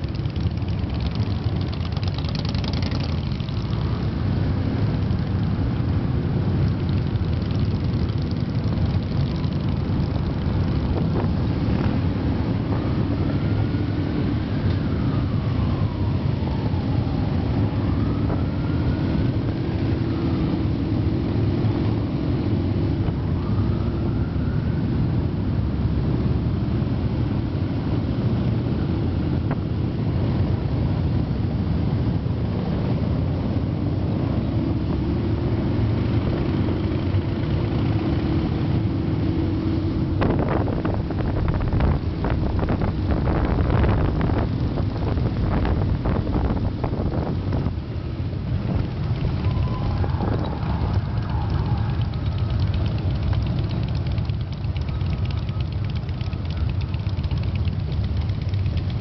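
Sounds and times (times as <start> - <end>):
motorcycle engines rumbling: 0.0 - 59.0.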